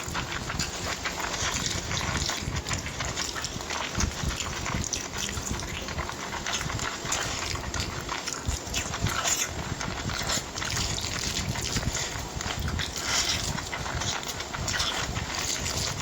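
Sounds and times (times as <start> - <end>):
wet chewing and lip smacking: 0.0 - 16.0.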